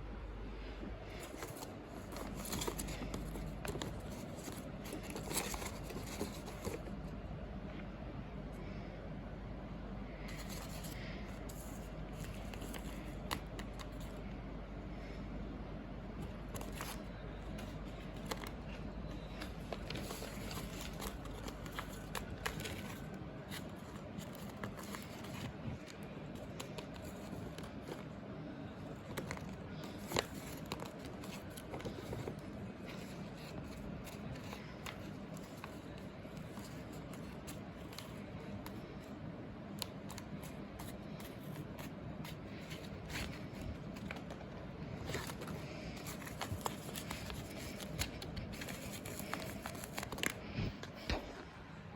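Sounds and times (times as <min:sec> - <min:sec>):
steady low hum: 0:00.0 - 0:51.9
packaging crinkling and tearing: 0:01.1 - 0:06.9, 0:10.3 - 0:14.2, 0:16.3 - 0:38.9, 0:39.8 - 0:51.2.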